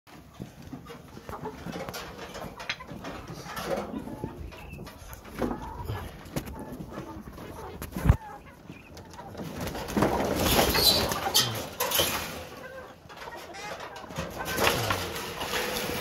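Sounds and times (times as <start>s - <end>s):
chickens clucking: 0.1s - 16.0s
rustling and scuffling: 0.1s - 16.0s.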